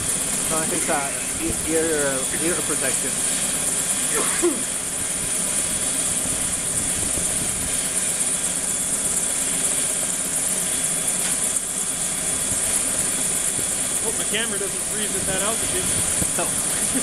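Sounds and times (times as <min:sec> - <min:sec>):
helicopter rotor and engine: 0:00.0 - 0:17.0
high-pitched whine: 0:00.0 - 0:17.0.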